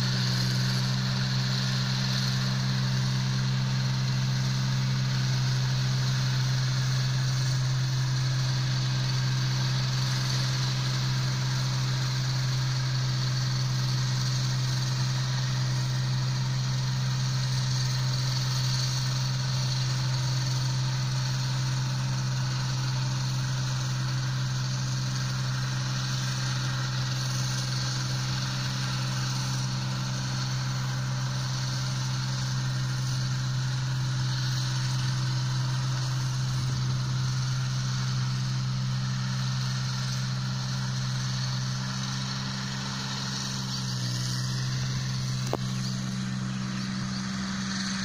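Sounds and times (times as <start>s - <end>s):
combine harvester engine droning: 0.0s - 48.0s.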